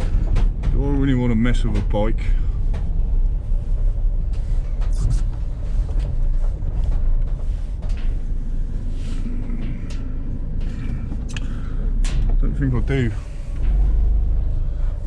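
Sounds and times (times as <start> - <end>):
van engine and road rumble: 0.0 - 15.0.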